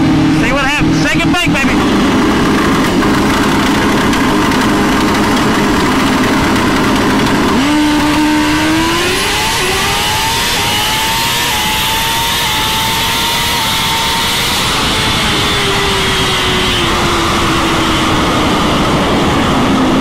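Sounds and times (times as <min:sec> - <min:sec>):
motorcycle engine revving and accelerating: 0:00.0 - 0:20.0.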